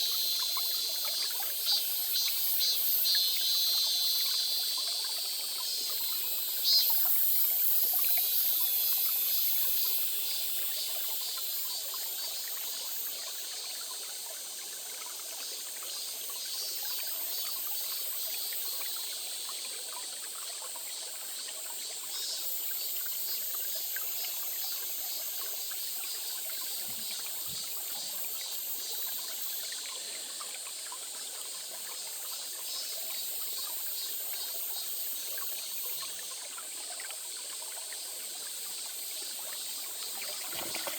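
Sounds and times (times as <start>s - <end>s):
stream trickling and splashing: 0.0s - 40.9s.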